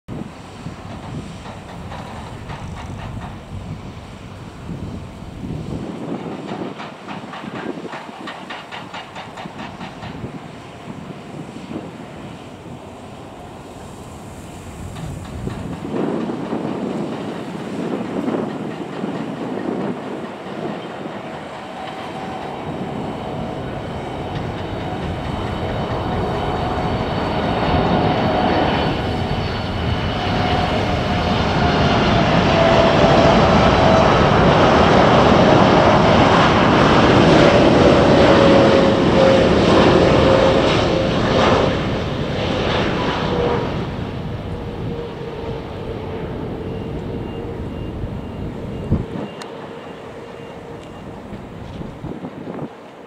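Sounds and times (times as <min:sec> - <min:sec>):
jet engine whine falling in pitch: 0:00.1 - 0:53.0
jet rumble flying past: 0:00.1 - 0:53.0.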